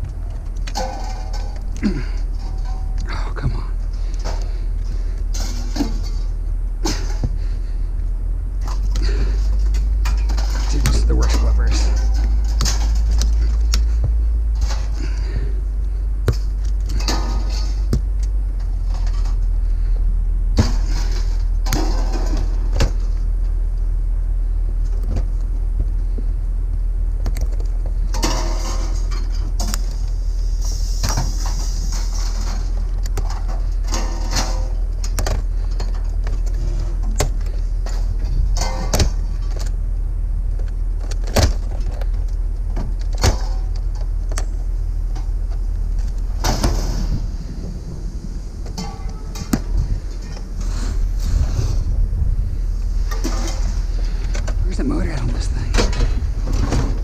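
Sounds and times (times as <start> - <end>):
sharp clicks and rattles: 0.0 - 20.0, 24.8 - 57.0
steady low rumble: 0.0 - 57.0.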